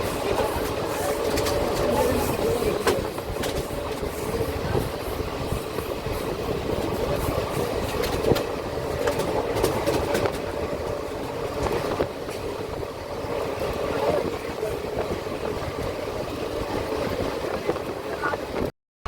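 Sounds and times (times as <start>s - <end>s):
train wheels rumbling on rails: 0.0s - 18.7s.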